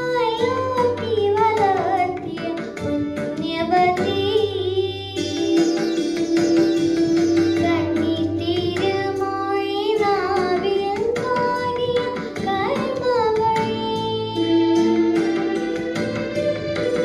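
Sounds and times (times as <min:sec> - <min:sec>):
girl singing into microphone: 0:00.0 - 0:16.8
instrumental accompaniment with beat: 0:00.0 - 0:17.0.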